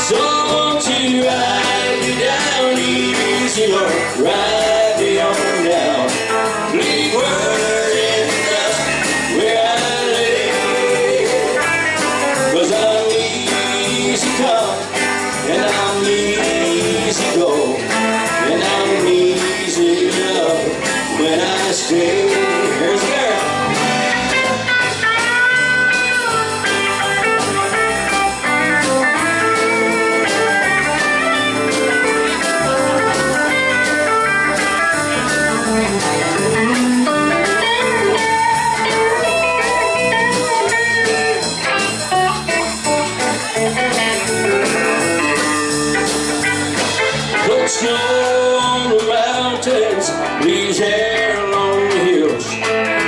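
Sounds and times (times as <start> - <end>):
bass guitar: 0.0 - 53.0
drums: 0.0 - 53.0
electric guitar lead: 0.0 - 53.0
rhythm guitar: 0.0 - 53.0.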